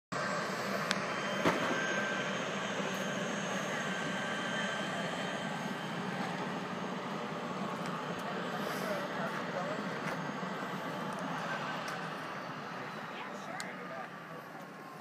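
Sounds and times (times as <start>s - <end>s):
helicopter turbine whine: 0.1s - 15.0s.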